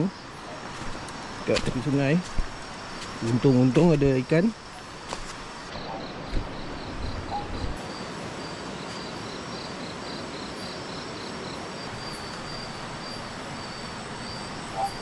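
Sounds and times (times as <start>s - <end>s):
insect trills: 0.0s - 15.0s
insects chirping: 0.0s - 15.0s.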